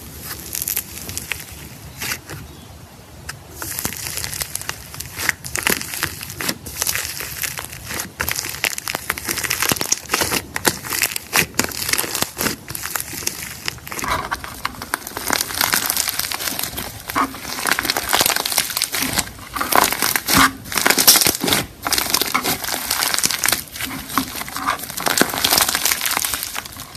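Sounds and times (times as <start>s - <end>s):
slime crackling and popping: 0.0s - 2.3s, 3.5s - 26.9s.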